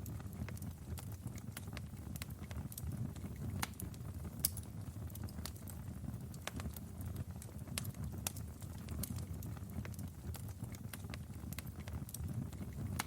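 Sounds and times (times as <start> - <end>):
fire crackling and popping: 0.0 - 13.0
low rumble of flame: 0.0 - 13.0.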